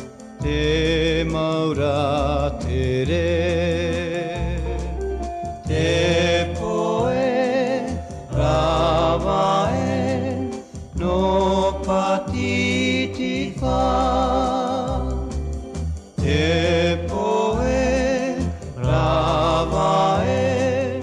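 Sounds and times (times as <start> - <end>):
popular song with wavering melody: 0.0 - 21.0
steady bass notes: 0.0 - 21.0.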